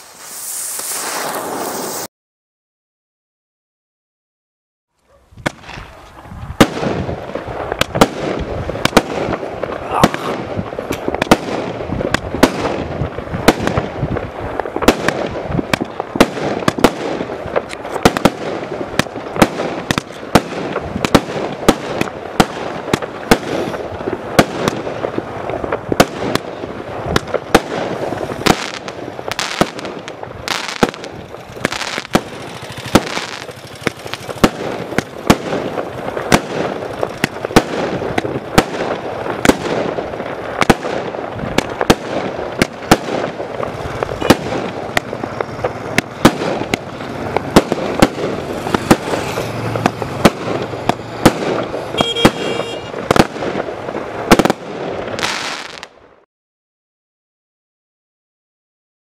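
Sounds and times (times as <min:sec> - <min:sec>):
fireworks crackle: 0:00.0 - 0:02.1, 0:05.3 - 0:56.3
fireworks shots firing: 0:00.0 - 0:02.1, 0:05.4 - 0:56.0.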